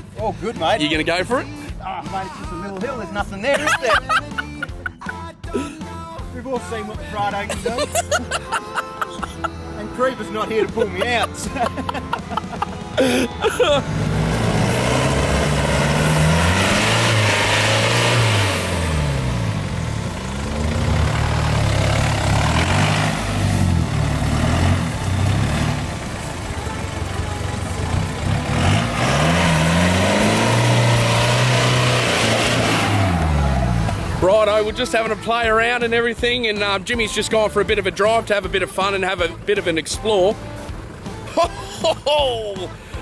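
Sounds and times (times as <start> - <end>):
truck engine revving: 3.4 - 6.0, 6.7 - 42.1.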